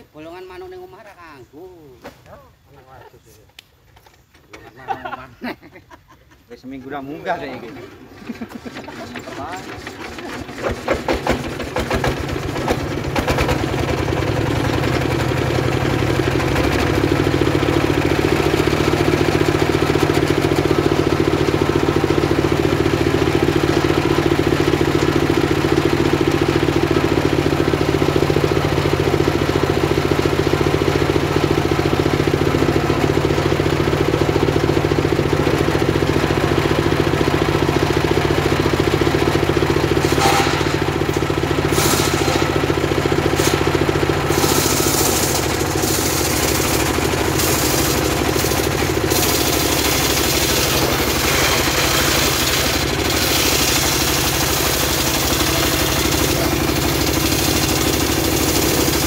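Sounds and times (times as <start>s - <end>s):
circular saw cutting timber: 8.4s - 59.0s.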